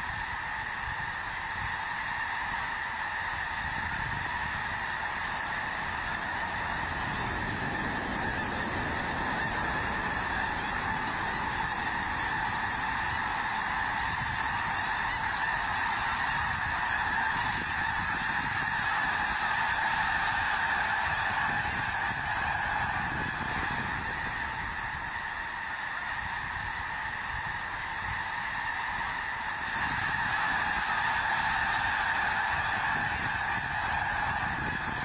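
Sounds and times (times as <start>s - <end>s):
geese honking: 0.0s - 35.0s
low rush of wings: 0.2s - 35.0s.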